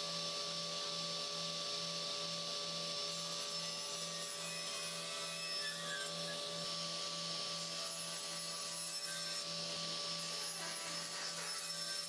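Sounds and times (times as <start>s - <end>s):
saw cutting wood panel: 0.0s - 12.0s
table saw running: 0.0s - 12.0s.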